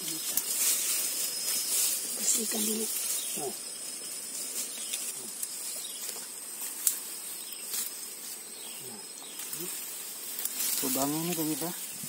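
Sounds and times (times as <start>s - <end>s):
grass rustling and clicks: 0.0s - 12.0s
insect chirring: 0.0s - 12.0s.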